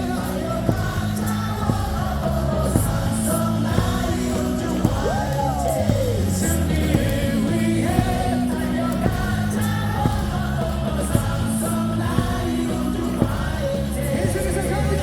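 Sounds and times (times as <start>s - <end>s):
crowd singing a cheer song: 0.0s - 15.0s
crowd yelling: 0.0s - 15.0s
loud amplified music with beat: 0.0s - 15.0s.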